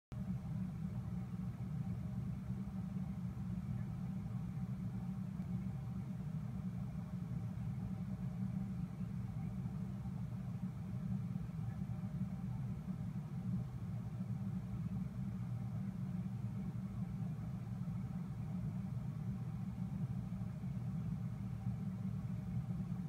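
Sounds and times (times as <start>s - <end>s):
aquarium pumps humming: 0.1s - 23.0s.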